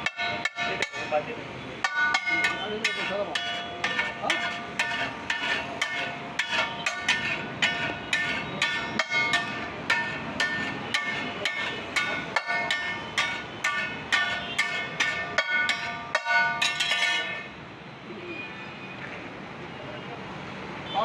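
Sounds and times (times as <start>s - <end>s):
metal spatula clanging on griddle: 0.0s - 17.5s.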